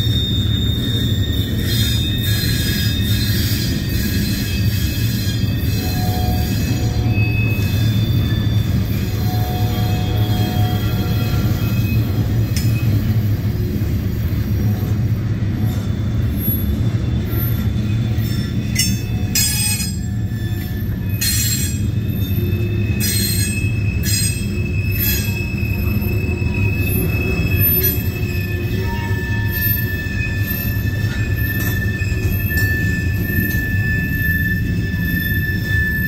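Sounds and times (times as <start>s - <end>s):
steel wheels rumbling on rail: 0.0s - 36.0s
wheel squeals and screeches: 0.0s - 36.0s.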